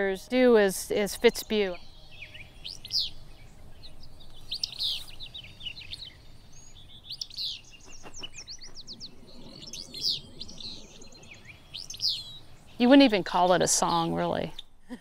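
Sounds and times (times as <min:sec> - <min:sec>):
flycatcher singing: 0:00.8 - 0:14.7.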